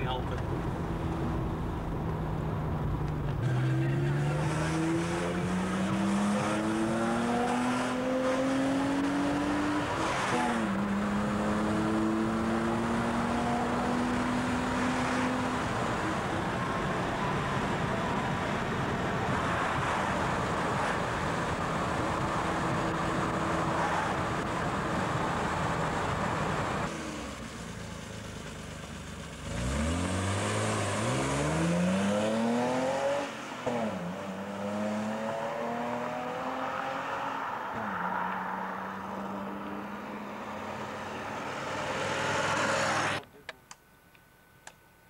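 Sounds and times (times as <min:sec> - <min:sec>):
car engine accelerating: 0:00.0 - 0:43.2
road and tyre noise: 0:00.0 - 0:45.0.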